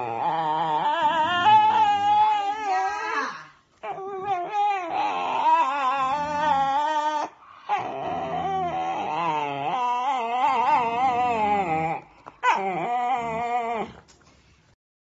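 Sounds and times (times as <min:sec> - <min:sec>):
dog whining: 0:00.0 - 0:14.1.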